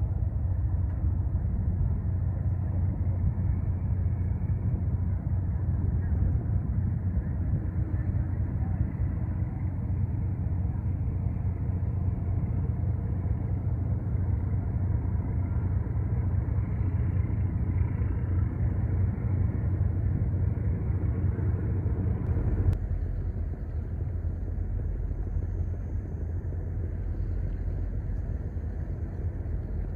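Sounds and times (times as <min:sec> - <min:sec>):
ship engine humming: 0:00.0 - 0:29.9.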